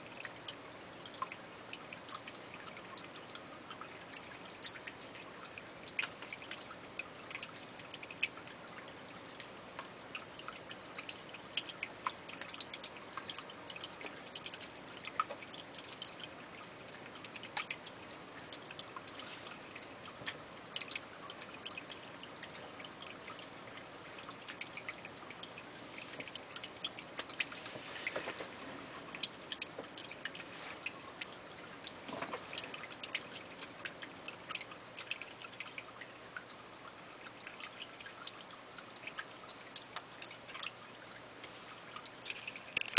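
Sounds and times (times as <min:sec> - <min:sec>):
small drip-like clicks: 0:00.0 - 0:42.9
water trickling: 0:00.0 - 0:42.9.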